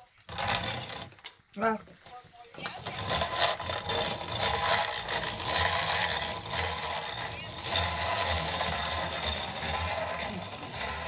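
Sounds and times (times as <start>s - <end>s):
hand-cranked grain mill grinding: 0.0s - 1.4s, 2.5s - 11.0s.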